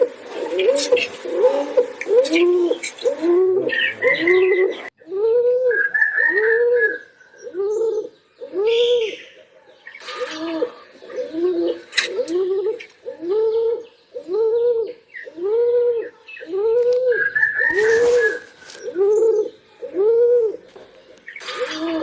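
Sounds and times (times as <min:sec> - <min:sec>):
pigeon cooing: 0:00.0 - 0:22.0.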